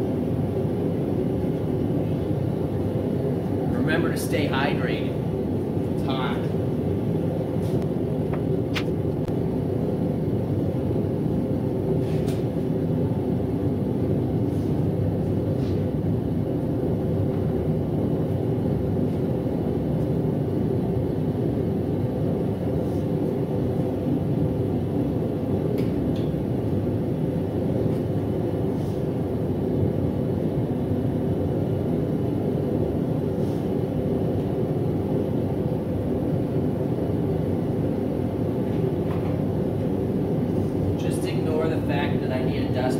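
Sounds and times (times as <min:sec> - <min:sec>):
gas burner roaring: 0:00.0 - 0:42.9.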